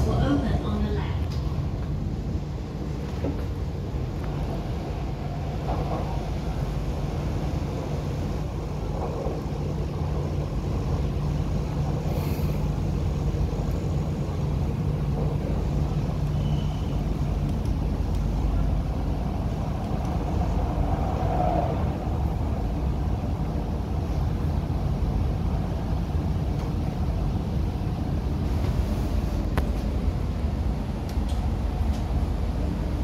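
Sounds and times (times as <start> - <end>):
train equipment hum: 0.0 - 33.0
train wheels rumbling on rail: 0.0 - 33.0.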